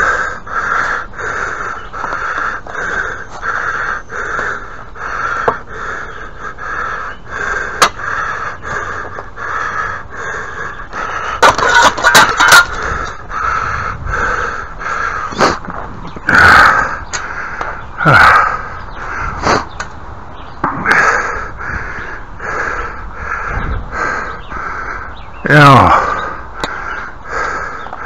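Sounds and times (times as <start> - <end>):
man panting: 0.0 - 19.7, 20.8 - 28.0.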